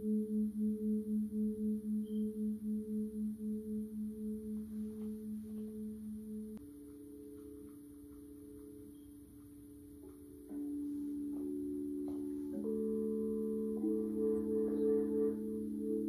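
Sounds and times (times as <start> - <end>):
pulsing low pure tone: 0.0 - 9.2, 10.4 - 16.0
steady higher tone: 0.0 - 16.0.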